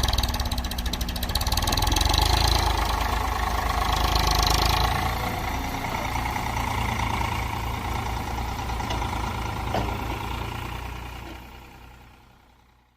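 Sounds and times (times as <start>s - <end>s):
diesel tractor engine running: 0.0s - 12.9s.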